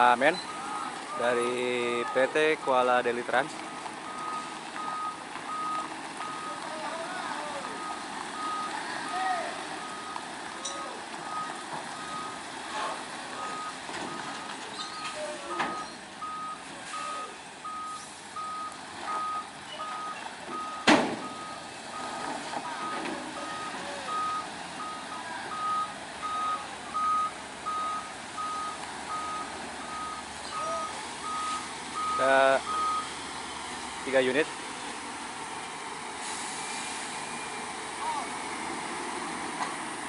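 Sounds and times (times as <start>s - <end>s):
truck reversing alarm beeping: 0.0s - 34.3s, 35.5s - 39.9s.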